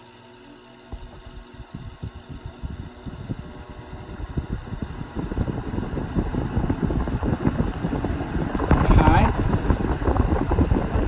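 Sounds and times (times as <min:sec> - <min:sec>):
box fan spinning up: 0:00.0 - 0:11.0
airflow buffeting microphone: 0:00.9 - 0:11.0.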